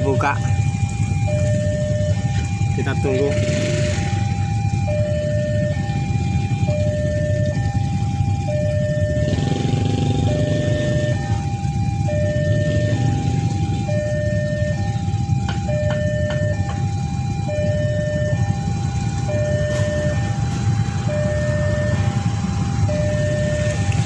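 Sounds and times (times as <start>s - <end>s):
level crossing two-note alarm: 0.0s - 24.0s.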